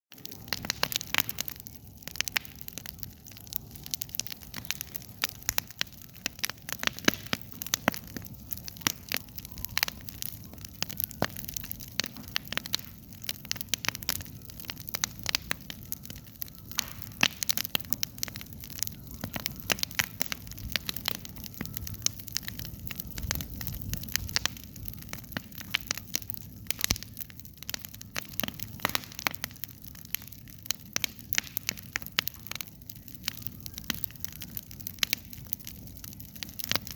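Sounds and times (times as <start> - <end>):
campfire crackling: 0.1 - 36.9.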